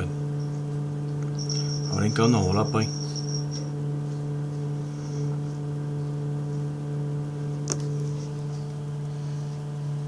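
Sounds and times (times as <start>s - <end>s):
low hum with overtones: 0.0s - 10.0s.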